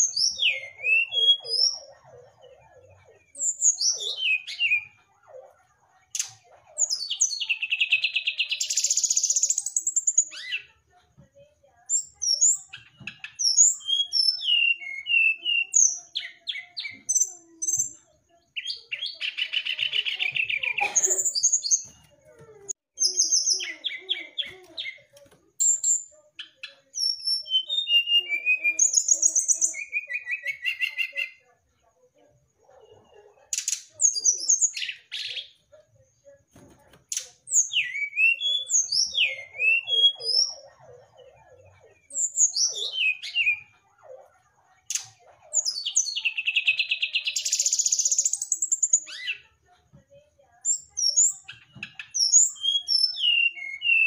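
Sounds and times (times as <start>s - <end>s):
bird singing chirps and trills: 0.0s - 10.9s, 11.8s - 31.8s, 32.5s - 49.5s, 50.6s - 54.0s.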